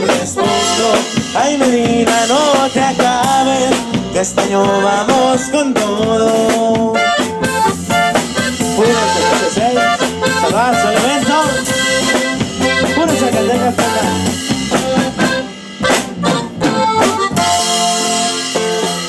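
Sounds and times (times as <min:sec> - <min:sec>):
bass: 0:00.0 - 0:19.0
guitar strumming: 0:00.0 - 0:19.0
lead melody: 0:00.0 - 0:19.0.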